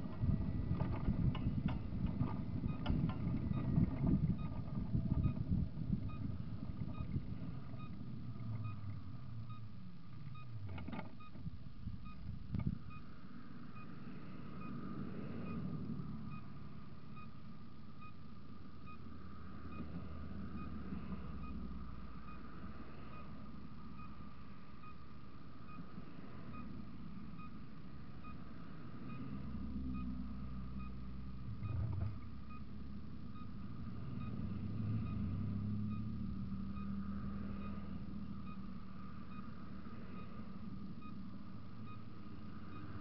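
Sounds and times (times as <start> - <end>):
turn signal ticking: 0.0 - 13.2, 15.4 - 43.0
car engine and tyre noise: 0.0 - 43.0.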